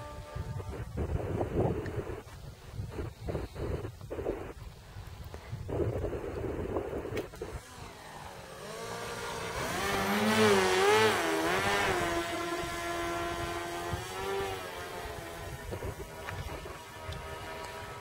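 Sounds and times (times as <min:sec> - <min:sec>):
model plane motor whine: 0:00.0 - 0:02.2, 0:04.8 - 0:18.0.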